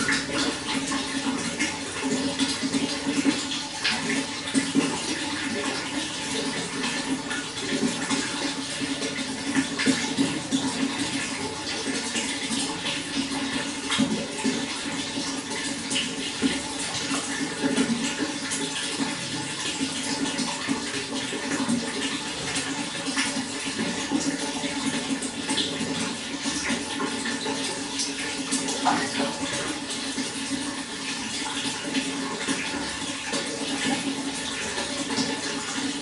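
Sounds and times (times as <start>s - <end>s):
running water with splashes: 0.0s - 36.0s.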